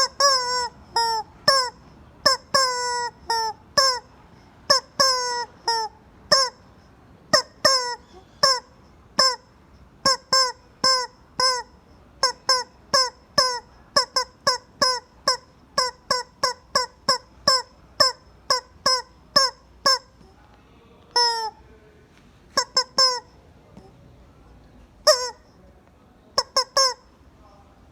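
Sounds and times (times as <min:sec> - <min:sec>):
rubber chicken toy squawking: 0:00.0 - 0:06.7, 0:07.3 - 0:20.3, 0:21.2 - 0:21.6, 0:22.5 - 0:23.9, 0:25.0 - 0:25.5, 0:26.4 - 0:27.2.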